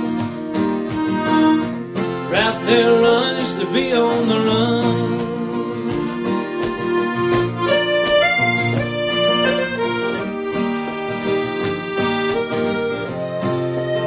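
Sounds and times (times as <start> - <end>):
accordion melody: 0.0 - 14.0
strummed acoustic guitar: 0.0 - 14.0.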